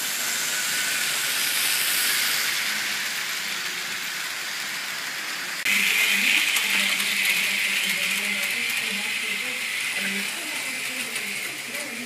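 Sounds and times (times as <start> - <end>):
small electric motor whirring: 0.0 - 12.0
gears rattling: 0.2 - 12.0.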